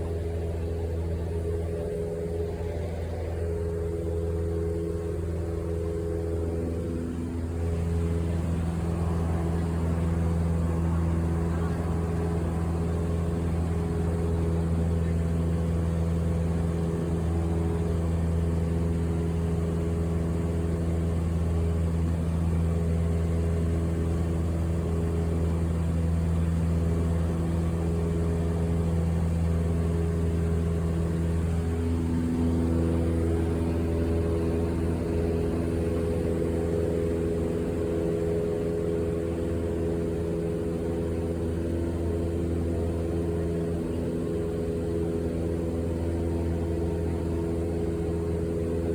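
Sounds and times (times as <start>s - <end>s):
aircraft engines droning in cabin: 0.0s - 48.9s.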